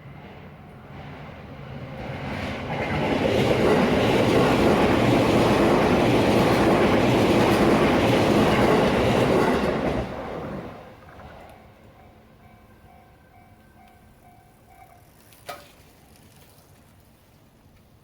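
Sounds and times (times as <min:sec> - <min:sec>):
train wheels rumbling on rails: 0:00.0 - 0:15.3.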